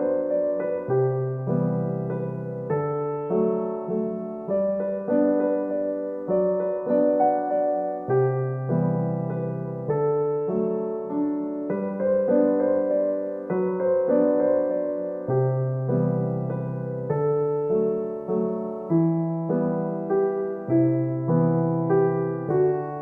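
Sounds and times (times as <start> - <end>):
soft piano chords: 0.0 - 23.0.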